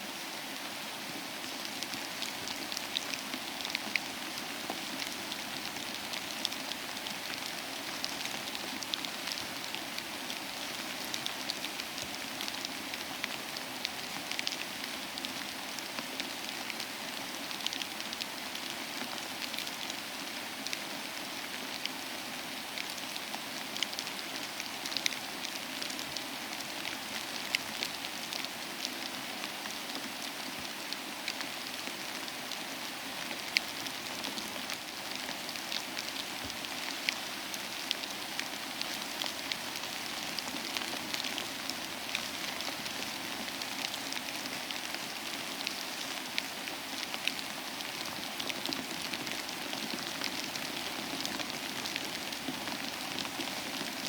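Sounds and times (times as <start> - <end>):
rain drops pattering: 0.1 - 54.0.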